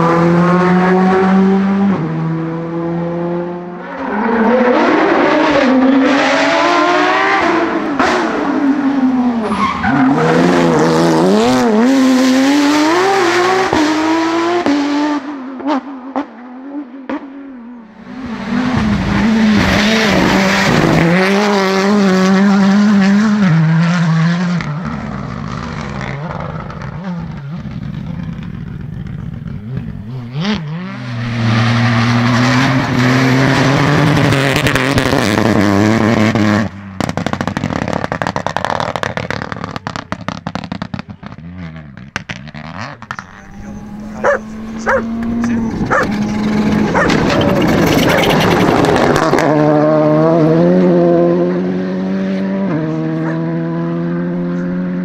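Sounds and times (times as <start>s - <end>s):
rally car engines revving hard: 0.0s - 55.0s.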